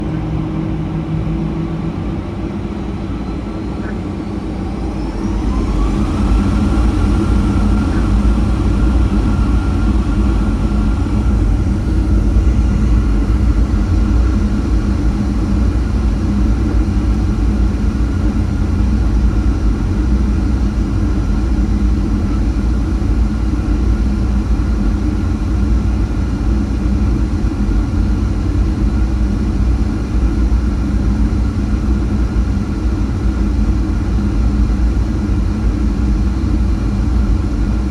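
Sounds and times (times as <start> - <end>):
jet engine rumble: 0.0 - 37.9
jet engine whine: 0.0 - 37.9.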